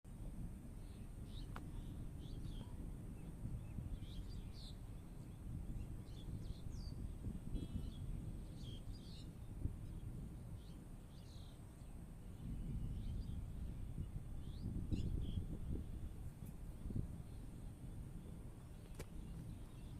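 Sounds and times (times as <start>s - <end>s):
low wind rumble: 0.1s - 19.9s
small birds chirping: 0.7s - 19.9s.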